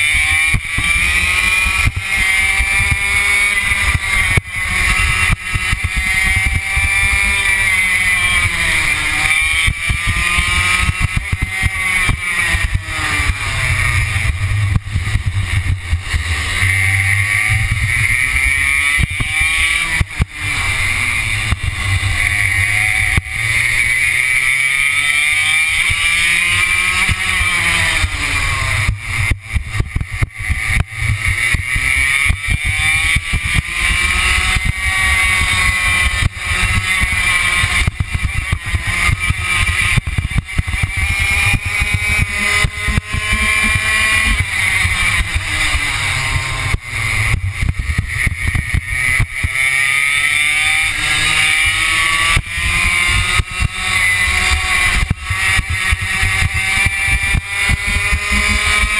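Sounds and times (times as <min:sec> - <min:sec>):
kart engine revving: 0:00.0 - 0:58.9.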